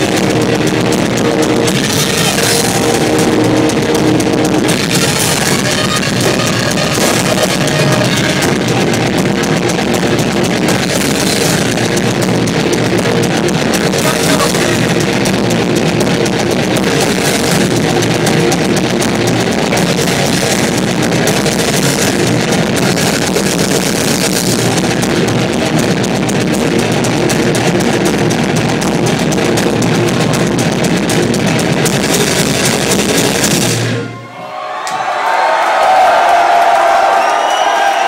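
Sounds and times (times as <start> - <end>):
heavy metal band playing live: 0.0 - 34.4
distorted electric guitars: 0.0 - 34.6
pounding drum kit: 0.0 - 38.0.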